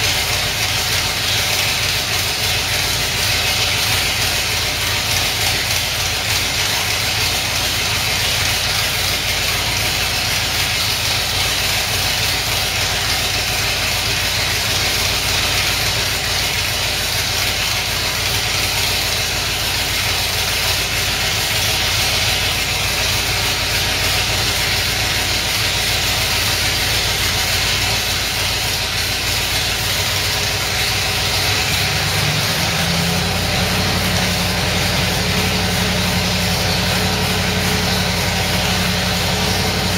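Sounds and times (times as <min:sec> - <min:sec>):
engine running: 0:00.0 - 0:39.9
hiss: 0:00.0 - 0:39.9.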